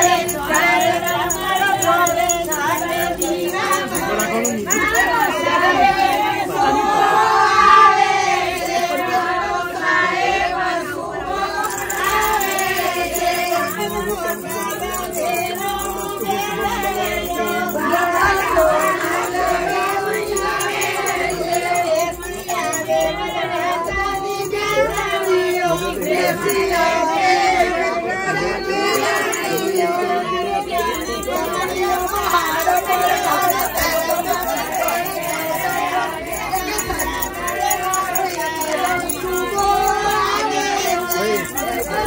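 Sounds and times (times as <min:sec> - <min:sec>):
group singing devotional song: 0:00.0 - 0:42.0.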